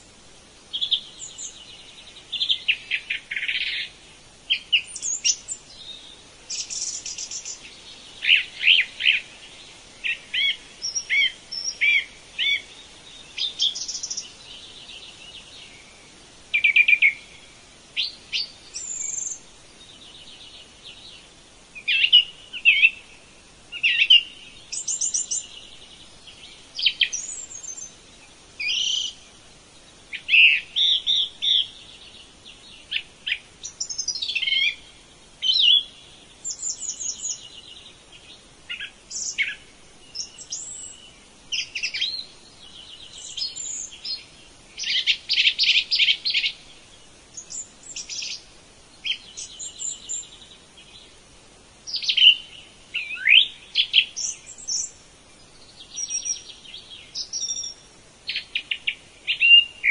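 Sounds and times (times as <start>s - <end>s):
forest birds chirping and trilling: 0.0s - 59.9s.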